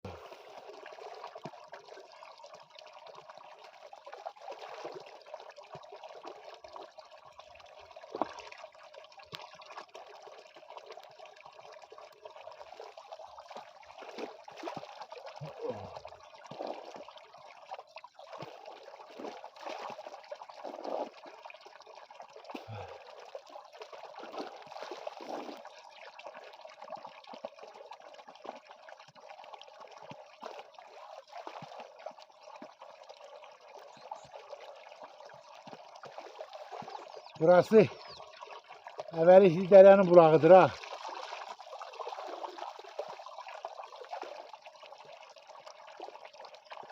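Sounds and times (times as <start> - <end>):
small water splashes: 0.0 - 46.9
spring water trickling: 0.0 - 46.9.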